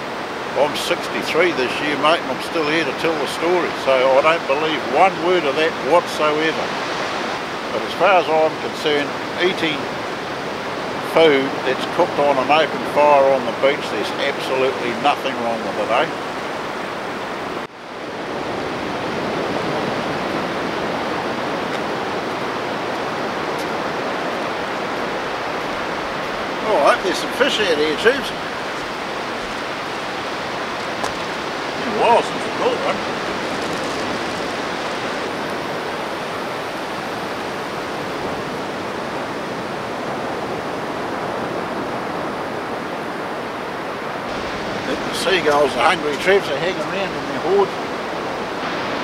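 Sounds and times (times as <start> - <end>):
surf breaking on a beach: 0.0 - 49.0.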